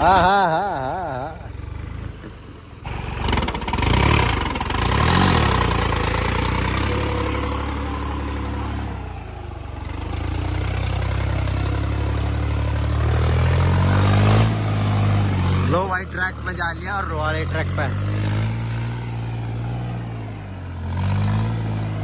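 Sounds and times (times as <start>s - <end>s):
tractor churning through mud: 0.0s - 22.0s
tractor engine labouring: 0.0s - 22.0s.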